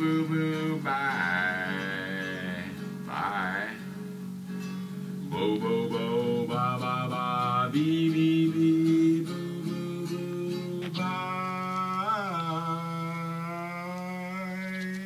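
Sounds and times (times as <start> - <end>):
acoustic guitar: 0.0 - 15.0
person singing long notes: 0.0 - 15.0.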